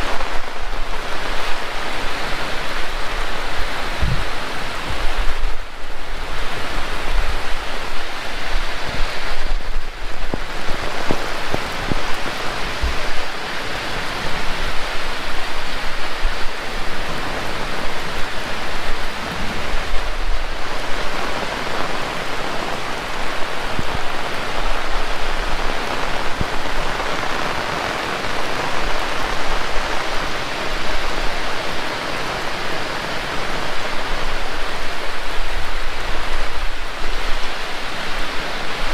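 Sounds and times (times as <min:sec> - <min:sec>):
heavy rain pattering: 0:00.0 - 0:38.9
wind buffeting microphone: 0:00.0 - 0:38.9.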